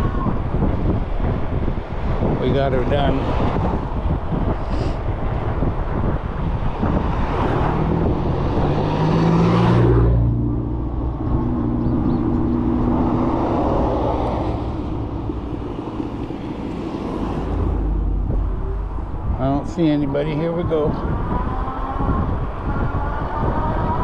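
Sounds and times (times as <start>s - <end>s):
car engine humming: 0.0s - 24.0s
wind and road noise: 0.0s - 24.0s.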